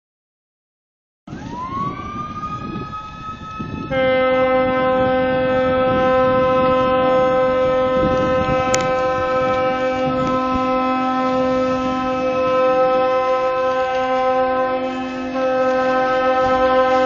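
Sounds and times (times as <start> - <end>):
high steady siren: 1.3 - 17.0
low loud ship horn: 1.3 - 17.0.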